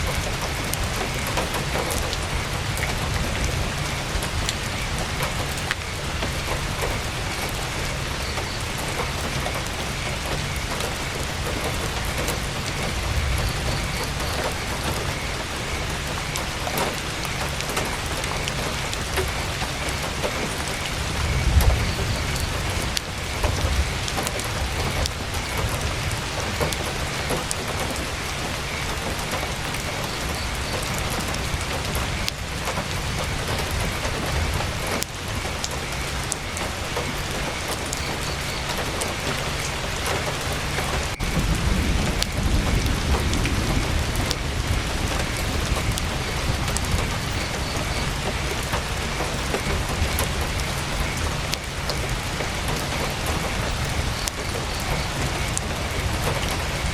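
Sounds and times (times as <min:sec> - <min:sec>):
heavy rain on tent canvas: 0:00.0 - 0:56.9.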